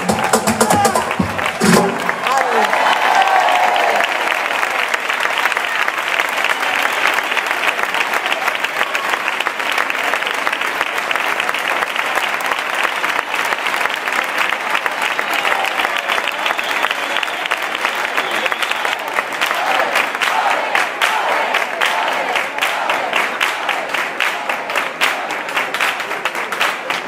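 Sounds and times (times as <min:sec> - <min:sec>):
crowd applauding: 0:00.0 - 0:27.0.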